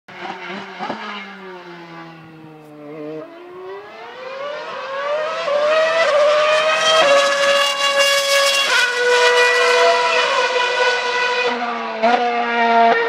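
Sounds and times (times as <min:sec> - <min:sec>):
racing car engine: 0:00.1 - 0:13.0.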